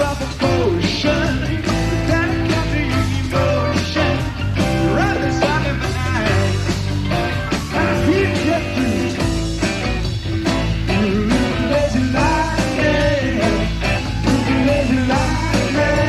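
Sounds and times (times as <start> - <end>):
pitch-bending lead guitar: 0.0 - 16.0
rock band playing: 0.0 - 16.0
steady bass: 0.0 - 16.0.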